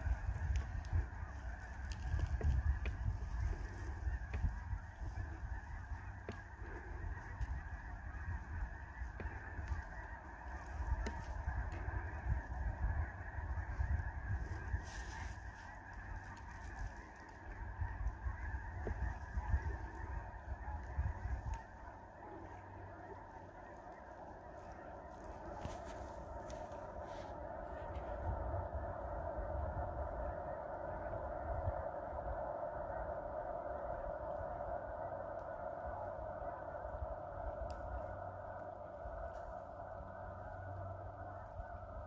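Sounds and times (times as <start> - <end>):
geese honking: 0.0 - 42.0.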